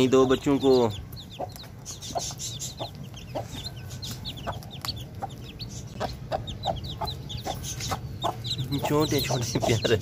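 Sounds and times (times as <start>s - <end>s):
chicks peeping: 0.0s - 10.0s
hen clucking: 0.0s - 10.0s.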